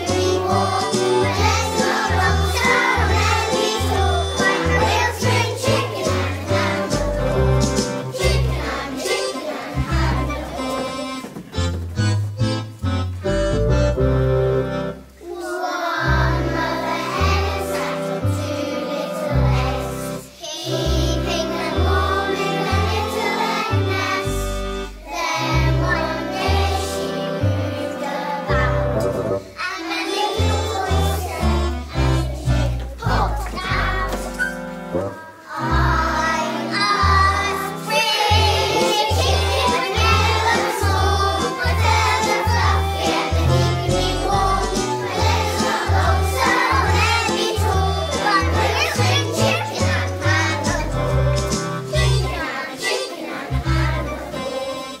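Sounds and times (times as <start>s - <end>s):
children singing: 0.0s - 11.6s, 15.2s - 55.0s
instrumental accompaniment with bass: 0.0s - 15.2s, 16.1s - 29.6s, 30.4s - 52.5s, 53.6s - 54.3s.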